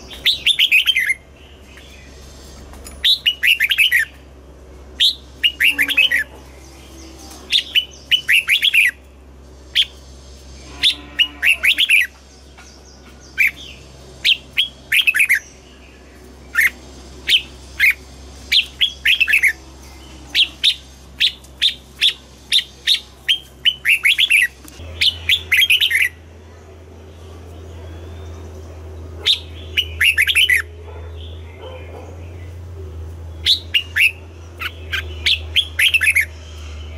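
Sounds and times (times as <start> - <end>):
bulbul singing: 0.0 - 36.9.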